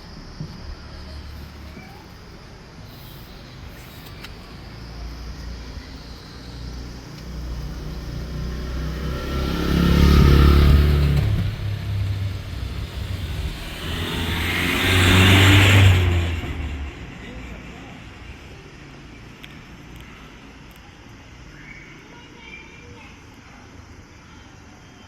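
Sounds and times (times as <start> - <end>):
vehicles passing: 0.0 - 24.8.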